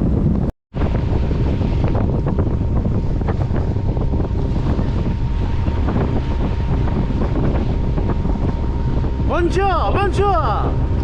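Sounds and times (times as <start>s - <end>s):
water washing around boat: 0.0s - 11.0s
wind buffeting microphone: 0.0s - 11.0s.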